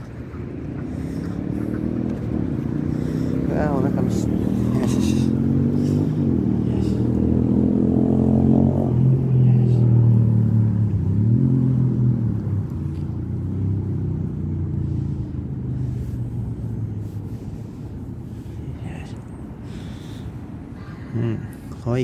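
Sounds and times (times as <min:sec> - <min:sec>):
motor vehicle engine running: 0:00.0 - 0:21.7.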